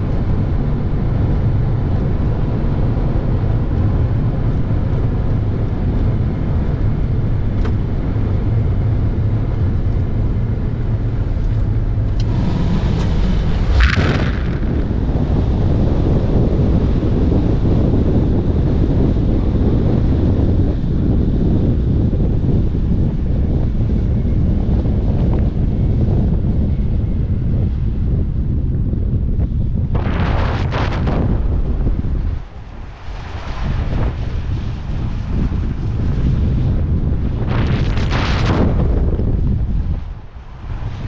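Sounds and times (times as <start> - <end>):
tyre and drivetrain rumble: 0.0 - 41.0
wind buffeting microphone: 0.0 - 41.0.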